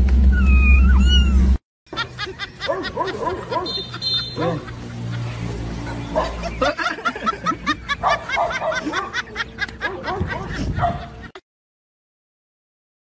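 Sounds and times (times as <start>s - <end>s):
high-pitched giggling: 1.0s - 11.4s.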